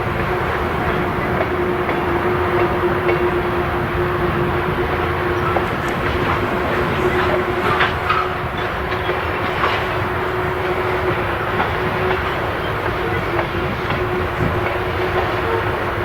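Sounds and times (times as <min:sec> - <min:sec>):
freight train wheels clattering: 0:00.0 - 0:16.0
train wheel squeals: 0:00.0 - 0:16.0.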